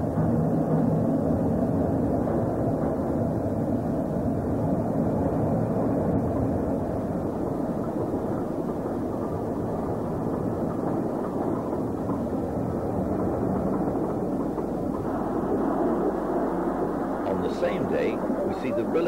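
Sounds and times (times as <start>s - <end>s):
train running: 0.0s - 19.0s.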